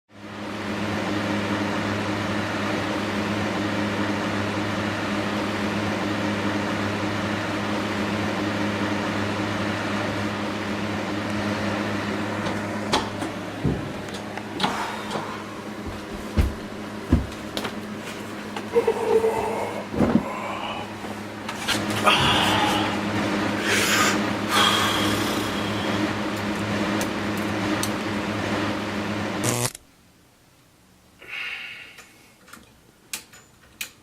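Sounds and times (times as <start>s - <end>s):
electric fan whirring: 0.2s - 34.0s.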